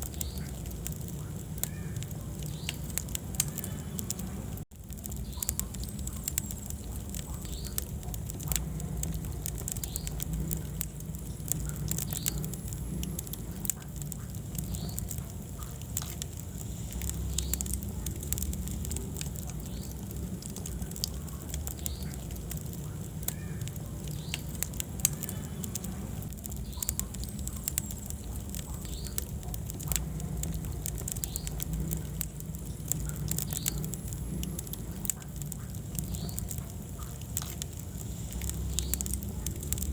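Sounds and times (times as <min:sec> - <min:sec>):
sharp pops of fire: 0:00.0 - 0:39.9
steady low rumble: 0:00.0 - 0:39.9
wood fire crackling: 0:00.0 - 0:39.9.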